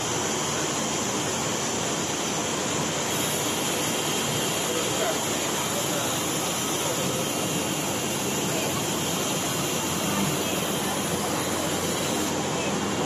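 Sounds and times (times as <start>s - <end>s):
edge banding machine running: 0.0s - 13.0s.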